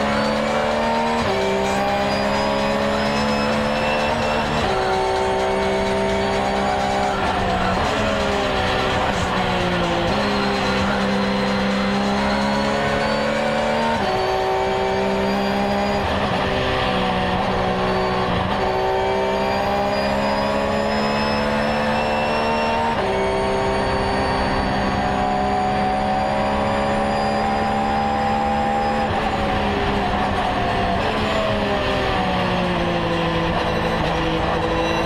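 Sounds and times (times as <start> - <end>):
car engine revving: 0.0 - 35.0
road noise inside car: 0.0 - 35.0.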